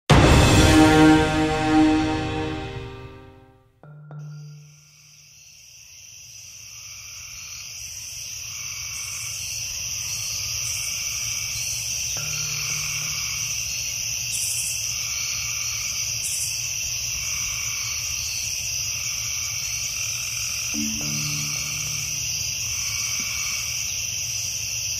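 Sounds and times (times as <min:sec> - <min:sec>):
high-pitched insect trill: 0:04.2 - 0:24.9
soft frog calls: 0:04.2 - 0:24.9.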